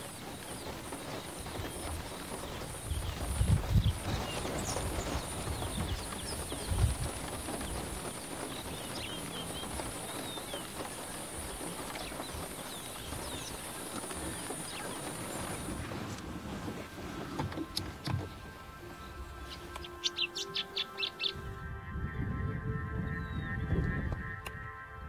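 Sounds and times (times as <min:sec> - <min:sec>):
small birds chirping: 0:00.0 - 0:16.6, 0:17.3 - 0:21.5.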